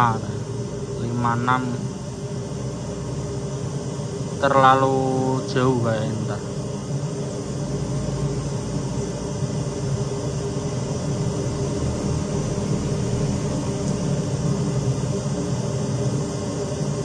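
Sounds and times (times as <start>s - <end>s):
test noise hiss from speaker: 0.0s - 17.0s.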